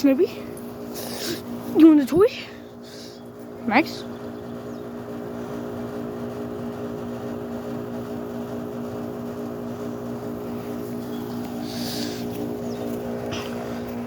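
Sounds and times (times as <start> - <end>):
motor droning: 0.0 - 14.0.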